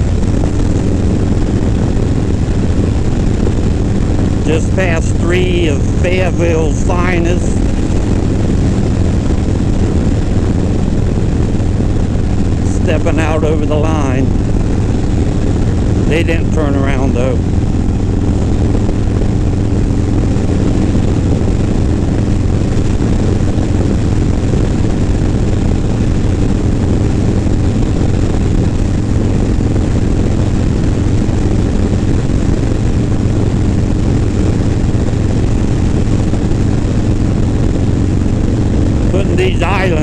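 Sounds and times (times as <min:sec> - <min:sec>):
motorcycle engine cruising: 0:00.0 - 0:40.0
wind rushing over microphone: 0:00.0 - 0:40.0.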